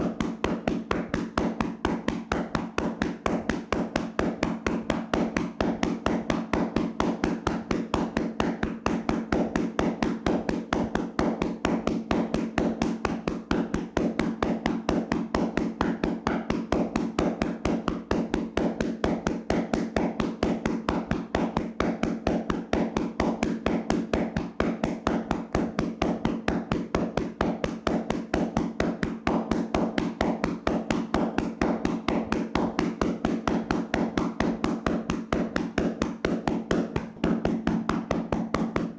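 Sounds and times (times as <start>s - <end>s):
hands slapping on a body: 0.0s - 38.9s.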